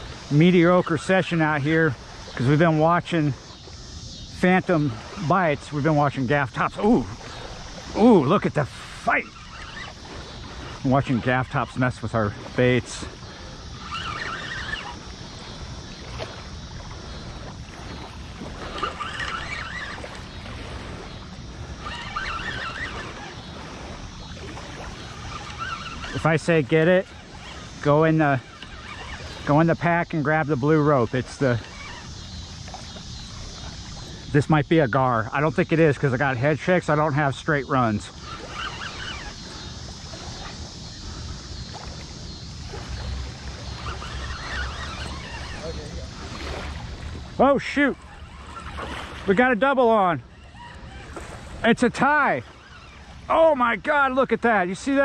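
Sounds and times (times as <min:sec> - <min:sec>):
wind on microphone: 0:00.0 - 0:35.0, 0:37.3 - 0:49.3
high wavering chirps: 0:00.0 - 0:55.0
water lapping: 0:00.0 - 0:55.0.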